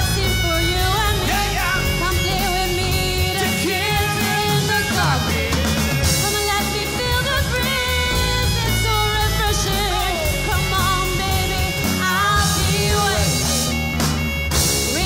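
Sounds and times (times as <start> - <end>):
woman singing: 0.0 - 13.8, 14.8 - 15.0
live rock-pop band: 0.0 - 15.0.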